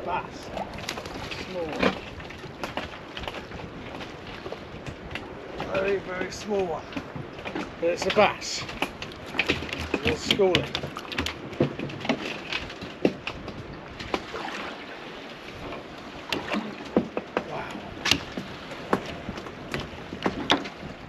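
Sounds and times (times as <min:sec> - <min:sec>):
knocks and clicks on a boat: 0:00.0 - 0:21.0
water lapping at a hull: 0:00.0 - 0:21.0.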